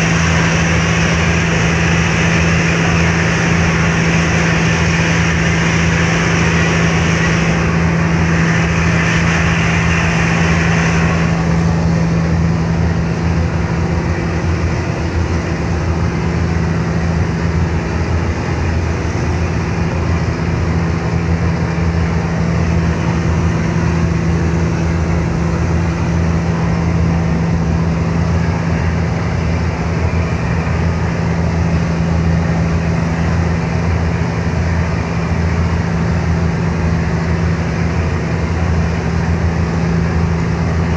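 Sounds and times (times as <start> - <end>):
ship engines droning: 0.0 - 40.9.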